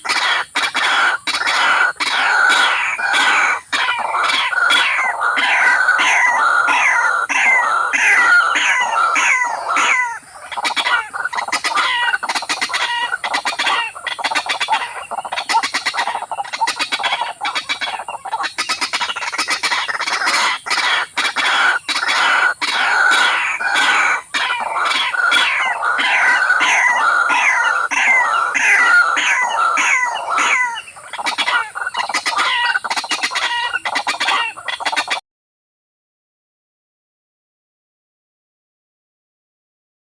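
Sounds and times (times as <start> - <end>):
rail bird falling calls: 0.0 - 34.6.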